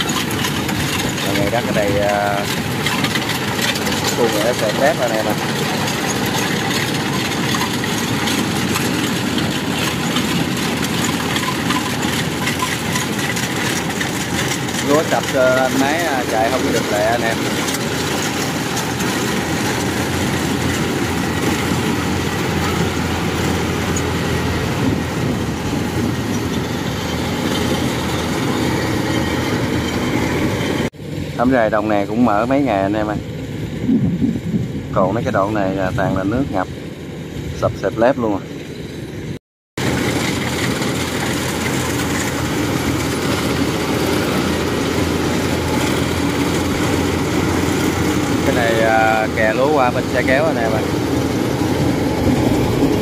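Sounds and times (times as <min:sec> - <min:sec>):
combine harvester droning: 0:00.0 - 0:53.0
cutting and threshing machinery: 0:00.0 - 0:53.0.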